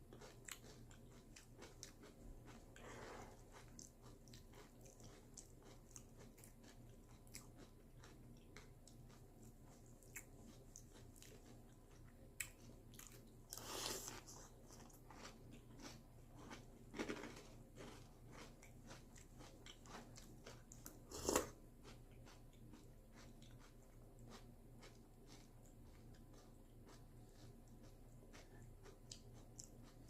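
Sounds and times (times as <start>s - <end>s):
person chewing crunchy cereal: 0.0s - 30.0s.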